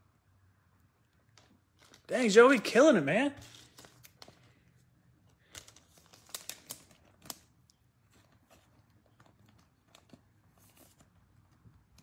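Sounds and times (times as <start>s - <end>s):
plastic sleeve crinkling: 1.3s - 12.0s.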